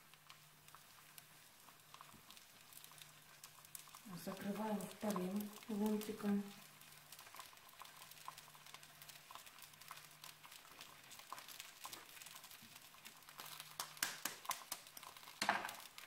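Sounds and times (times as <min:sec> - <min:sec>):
bread frying in oil: 0:00.0 - 0:16.0
low steady hum: 0:00.0 - 0:16.0.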